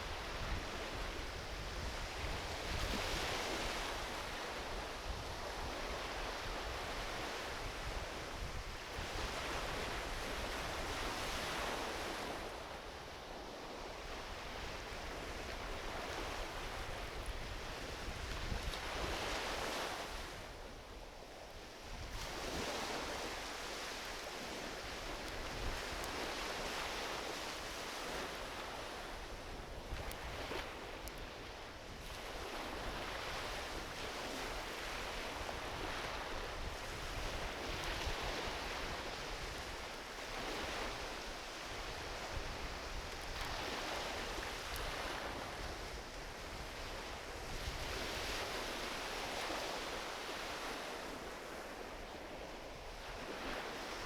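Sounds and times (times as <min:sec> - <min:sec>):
wind on microphone: 0:00.0 - 0:12.8, 0:13.4 - 0:21.0, 0:21.8 - 0:54.0
small waves washing onto beach: 0:00.0 - 0:54.0
faint campfire crackles: 0:00.2 - 0:46.7.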